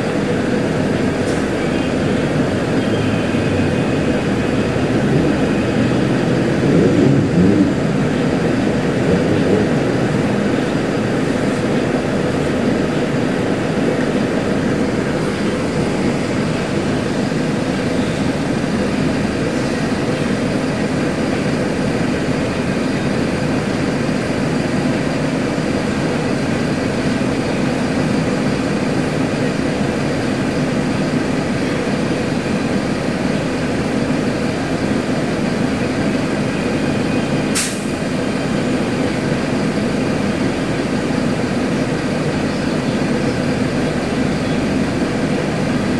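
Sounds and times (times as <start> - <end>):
diesel bus engine running: 0.0 - 45.9.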